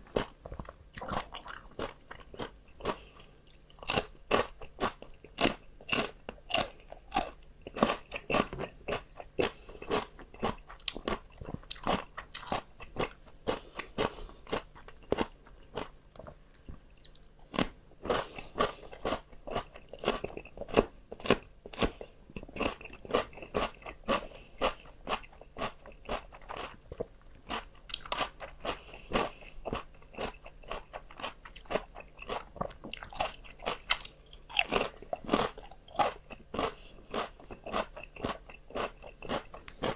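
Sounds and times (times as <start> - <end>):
crunching raw vegetables: 0.0 - 39.9.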